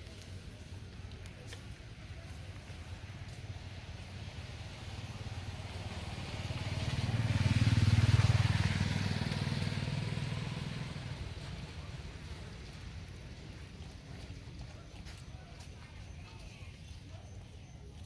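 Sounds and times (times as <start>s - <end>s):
tyre and road noise: 0.0s - 18.0s
vehicle engine rumble: 0.0s - 18.0s.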